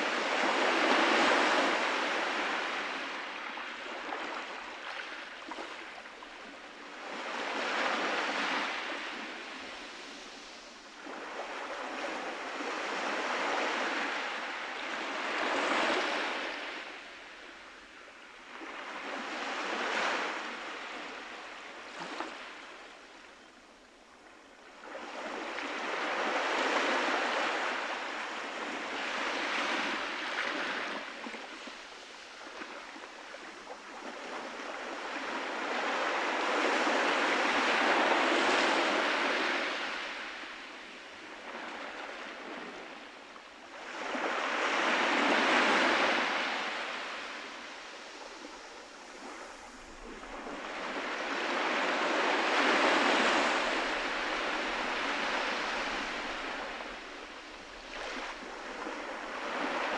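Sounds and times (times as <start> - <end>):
small waves on sandy beach: 0.0 - 59.9.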